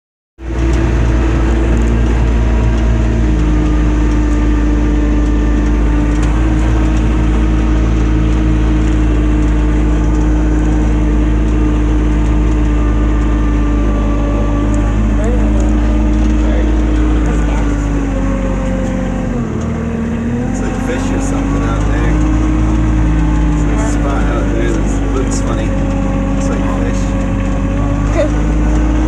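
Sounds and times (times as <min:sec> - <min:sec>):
atv engine running: 0:00.4 - 0:29.0.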